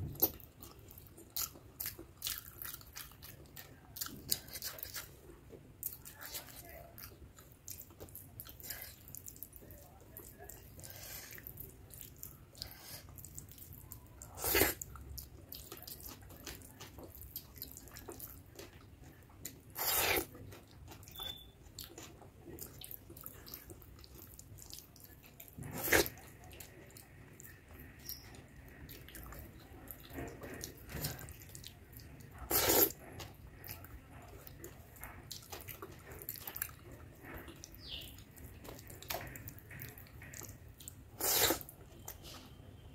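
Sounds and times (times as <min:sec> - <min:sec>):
wet chewing: 0:00.0 - 0:42.8.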